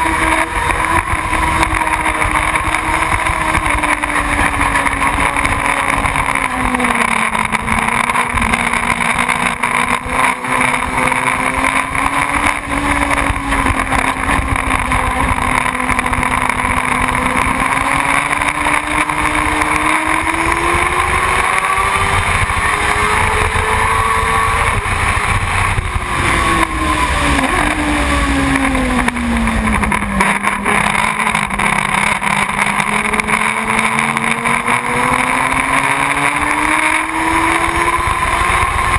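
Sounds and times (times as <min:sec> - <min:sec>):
motorcycle engine running: 0:00.0 - 0:38.9
wind rumbling on microphone: 0:00.0 - 0:38.9.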